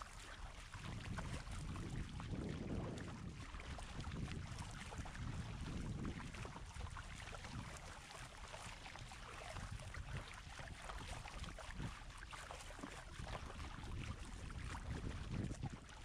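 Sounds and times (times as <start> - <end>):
water splashing around kayak: 0.0 - 16.0
wind rumbling on microphone: 0.0 - 16.0.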